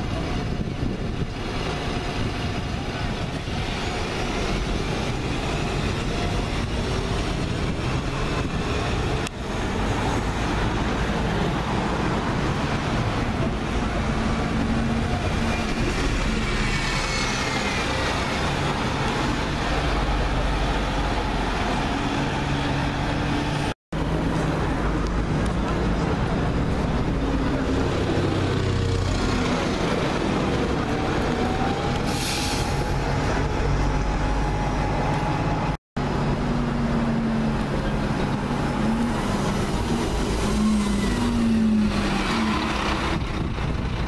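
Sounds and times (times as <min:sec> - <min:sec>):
bus engine whine: 0:00.0 - 0:44.0
buses driving past: 0:00.0 - 0:44.0
street traffic: 0:00.0 - 0:44.0.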